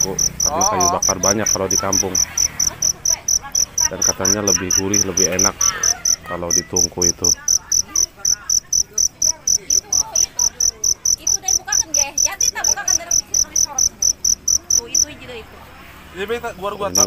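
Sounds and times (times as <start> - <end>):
cricket chirping: 0.0 - 15.3, 16.5 - 17.0.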